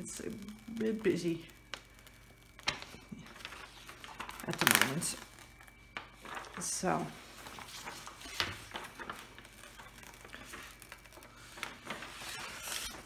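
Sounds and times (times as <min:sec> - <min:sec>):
cover paper rustling: 0:01.5 - 0:13.0.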